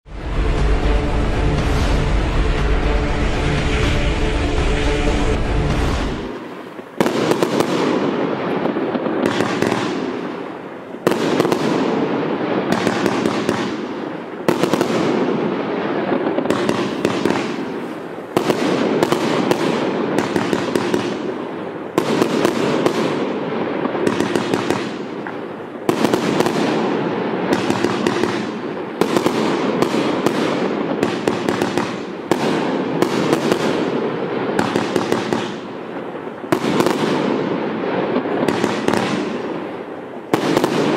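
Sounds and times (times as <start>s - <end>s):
crackling firework stars: 0.1s - 40.9s.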